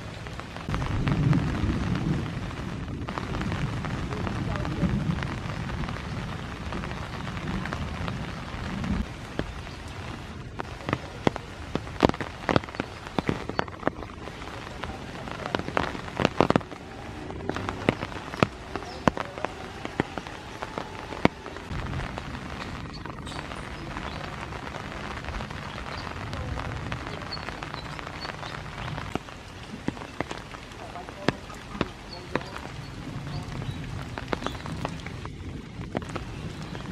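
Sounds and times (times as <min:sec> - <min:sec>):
rain hissing: 0:00.0 - 0:36.9
raindrops striking surfaces: 0:00.0 - 0:36.9.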